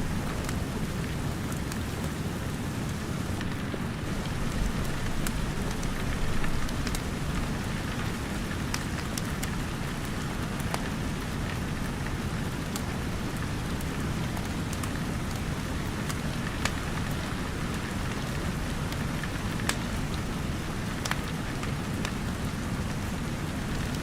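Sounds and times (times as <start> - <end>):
steady rain pattering: 0.0 - 24.0
wood fire crackling: 0.0 - 24.0.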